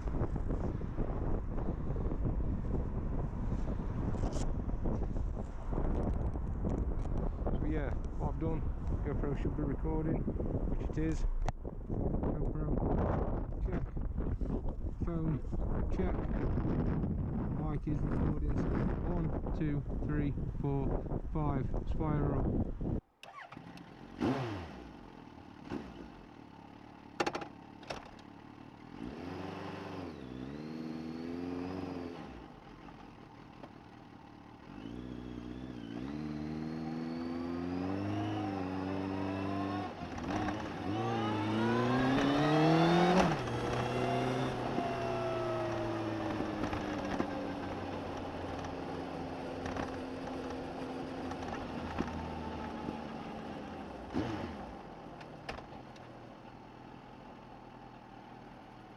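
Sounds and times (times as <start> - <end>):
motorcycle engine accelerating: 0.0 - 19.5, 22.0 - 58.9.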